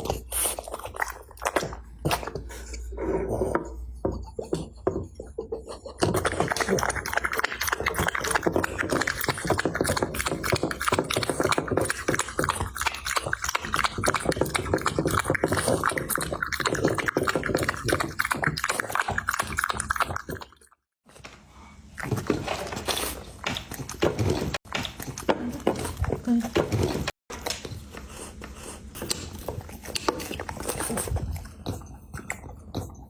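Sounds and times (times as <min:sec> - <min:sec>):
dog chewing food: 0:00.0 - 0:03.4, 0:06.0 - 0:20.6, 0:22.0 - 0:33.0.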